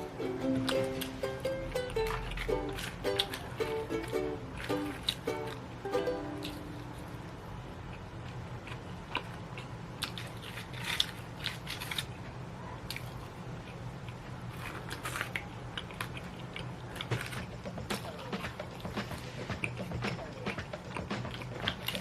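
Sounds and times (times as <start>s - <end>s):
biting and chewing: 0.0s - 22.0s.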